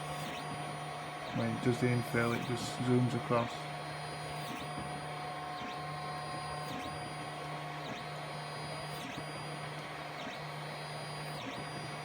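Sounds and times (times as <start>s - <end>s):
printer stepper motors whining: 0.0s - 12.0s.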